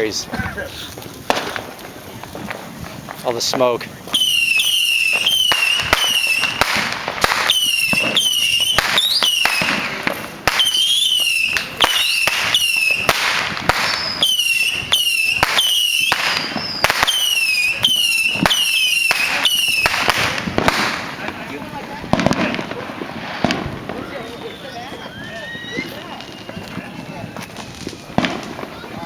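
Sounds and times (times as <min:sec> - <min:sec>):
firework bangs: 0:00.0 - 0:29.0
firework whistles: 0:00.9 - 0:29.0.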